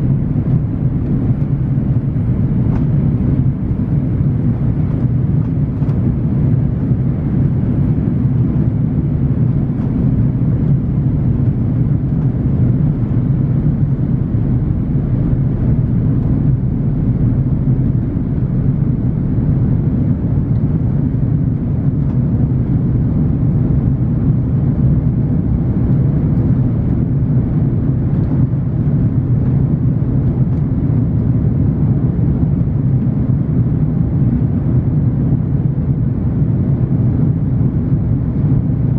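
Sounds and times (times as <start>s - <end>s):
jet engine rumble: 0.0s - 38.9s.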